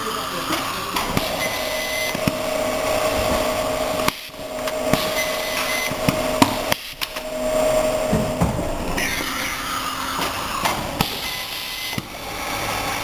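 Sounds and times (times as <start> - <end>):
conveyor and machine hum: 0.0 - 13.0
short high whine: 1.3 - 12.0.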